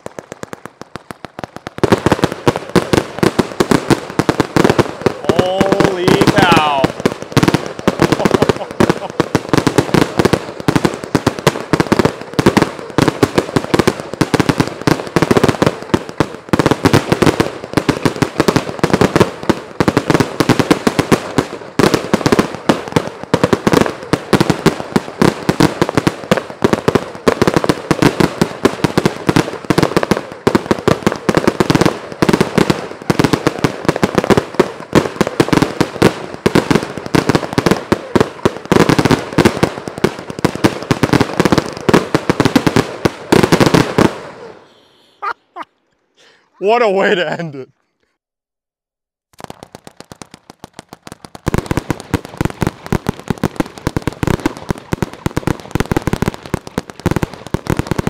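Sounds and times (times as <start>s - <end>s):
firework barrage of loud bangs: 0.0s - 45.3s, 49.3s - 58.0s.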